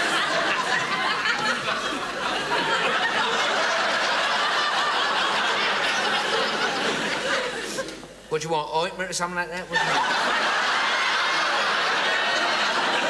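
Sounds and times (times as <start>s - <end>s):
audience laughing: 0.0s - 8.2s, 9.7s - 13.0s.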